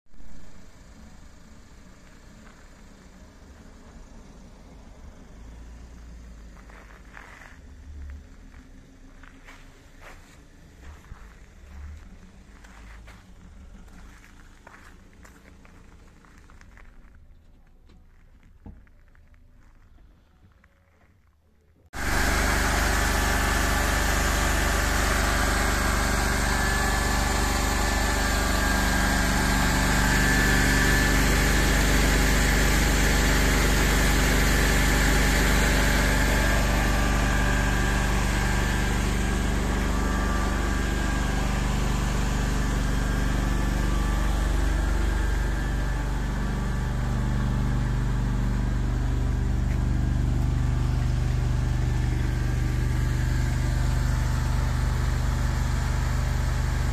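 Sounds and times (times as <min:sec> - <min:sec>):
engine running: 0:00.1 - 0:21.1, 0:21.9 - 0:56.9.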